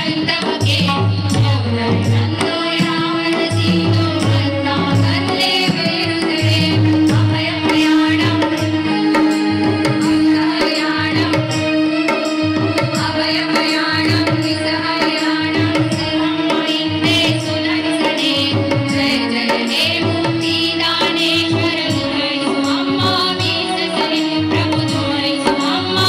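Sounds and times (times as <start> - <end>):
hand-drum beats: 0.0 - 26.0
women's chorus singing a hymn: 0.0 - 26.0.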